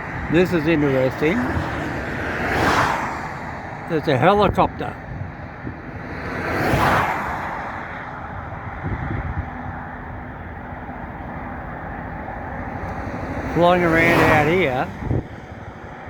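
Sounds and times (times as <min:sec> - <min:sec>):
road traffic noise: 0:00.0 - 0:16.0
vehicle passing: 0:00.0 - 0:16.0.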